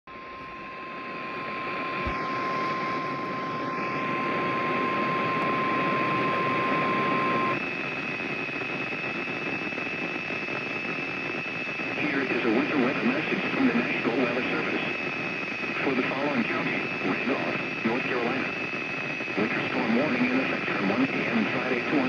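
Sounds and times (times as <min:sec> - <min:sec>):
faint high whine: 0:00.1 - 0:22.0
radio static: 0:00.1 - 0:22.0.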